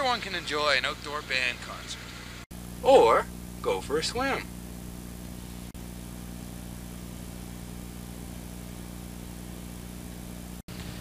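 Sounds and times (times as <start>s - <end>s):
camcorder hum with hiss: 0.0s - 11.0s.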